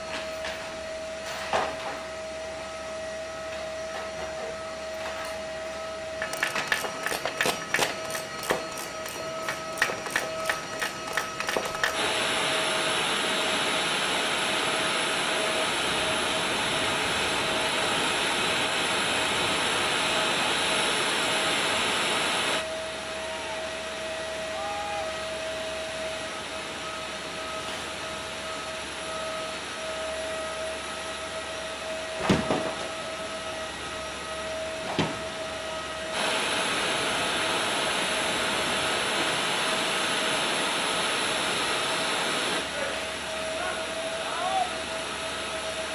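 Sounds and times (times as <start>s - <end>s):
ground equipment whine and hiss: 0.0s - 45.9s.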